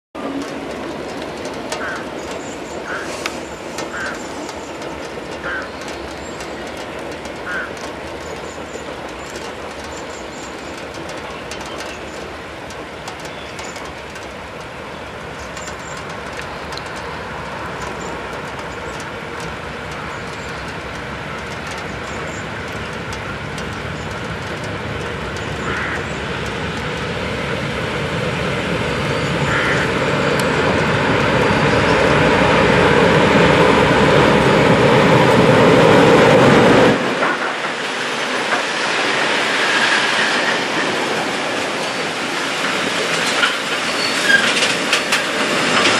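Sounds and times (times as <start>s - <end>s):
diesel locomotive engine rumble: 0.2s - 45.9s.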